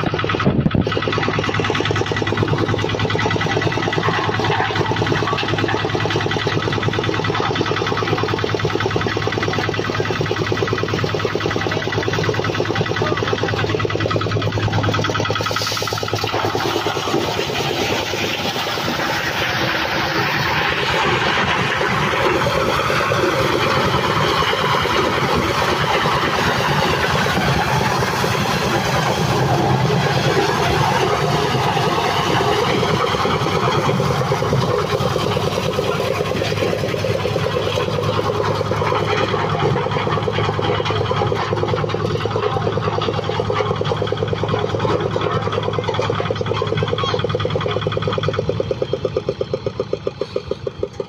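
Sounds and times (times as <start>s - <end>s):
corn sheller motor droning: 0.0s - 51.0s.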